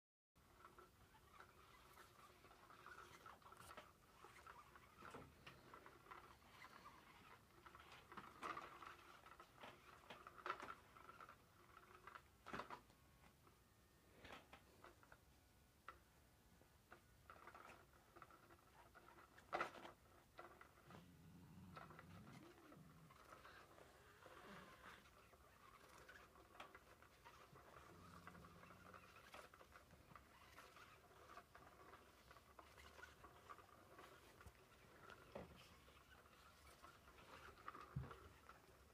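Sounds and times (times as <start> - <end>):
scratchy rustles and ticks: 0.4 - 13.6, 14.2 - 38.9.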